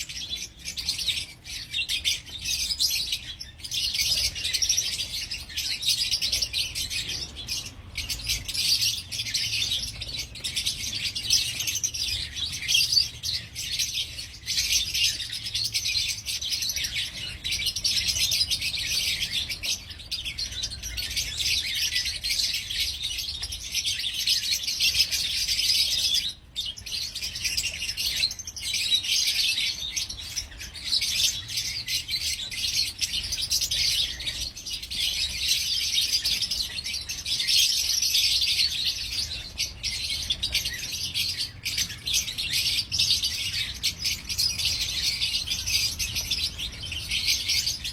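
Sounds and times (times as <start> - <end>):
lovebirds chirping and chattering: 0.0 - 47.9.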